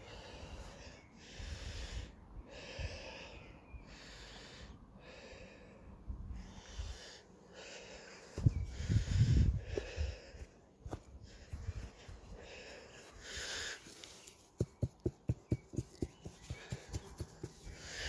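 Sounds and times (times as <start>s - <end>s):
person breathing hard: 0.0s - 18.0s.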